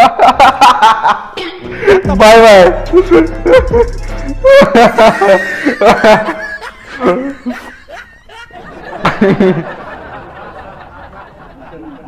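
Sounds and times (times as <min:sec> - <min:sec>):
people laughing and snickering: 0:00.0 - 0:12.0.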